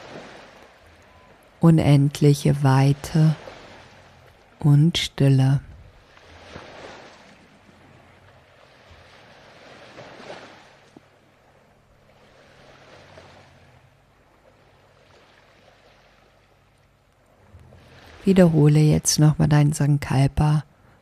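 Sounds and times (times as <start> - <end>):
ocean waves washing in: 0.0 - 21.0.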